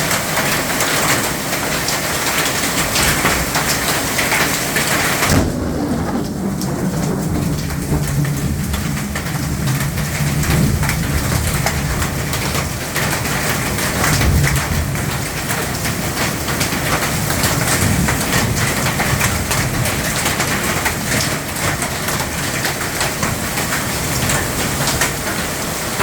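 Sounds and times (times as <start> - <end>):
heavy rain pelting: 0.0 - 26.0
low rumble of thunder: 1.8 - 26.0.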